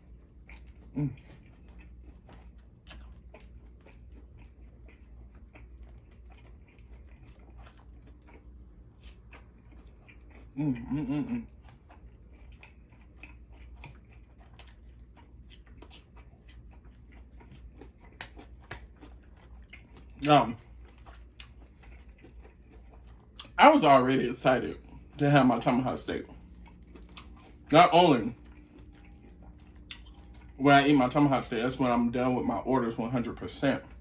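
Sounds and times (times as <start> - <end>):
chewing and biting food: 0.0 - 34.0.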